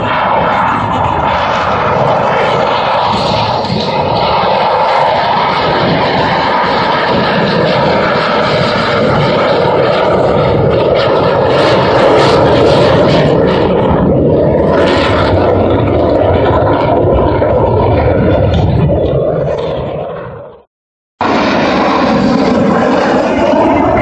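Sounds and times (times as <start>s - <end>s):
fighter jet flying past: 0.0s - 24.0s.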